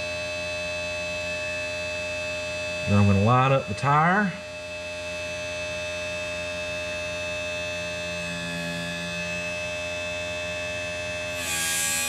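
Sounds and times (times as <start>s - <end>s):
electric motor hum and whine: 0.0s - 12.0s.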